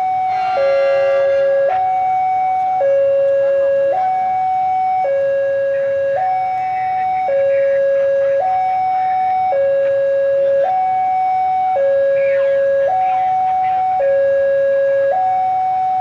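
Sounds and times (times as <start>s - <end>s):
level crossing two-tone alarm: 0.0s - 16.0s.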